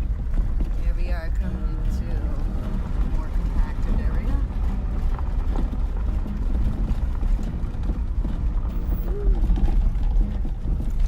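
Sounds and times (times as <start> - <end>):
knocks and rattles: 0.0 - 11.0
vehicle rumbling on dirt road: 0.0 - 11.0.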